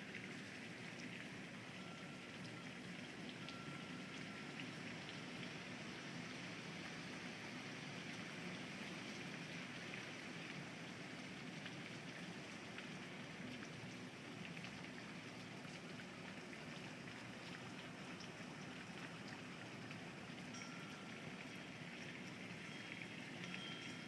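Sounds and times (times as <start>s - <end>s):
steady rain hiss: 0.0s - 24.0s
faint drip ticks: 0.9s - 6.0s, 8.8s - 24.0s.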